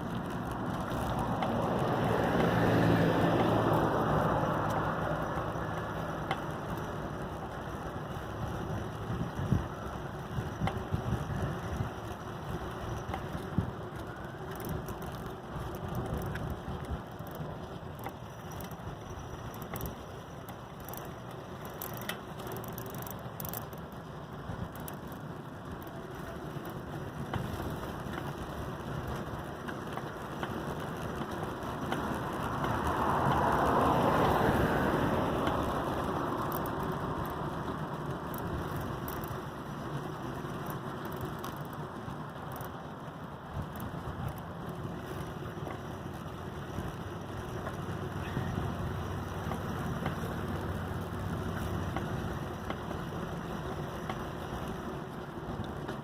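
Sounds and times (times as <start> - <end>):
tricycle drivetrain ticking: 0.0 - 56.0
wheels rolling: 0.0 - 56.0.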